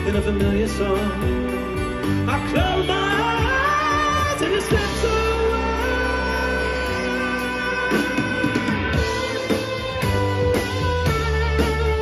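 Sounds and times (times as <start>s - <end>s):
bass guitar: 0.0s - 12.0s
drums: 0.0s - 12.0s
electric guitars ringing: 0.0s - 12.0s.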